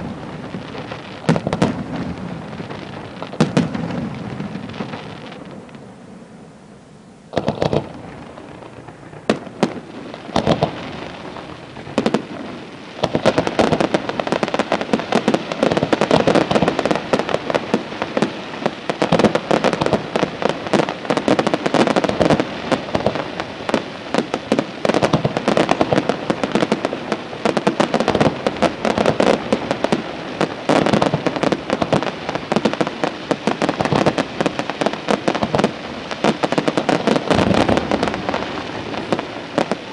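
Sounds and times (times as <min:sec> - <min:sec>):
fireworks bangs: 0:00.0 - 0:39.9
crackle of rapid pops: 0:07.3 - 0:39.9.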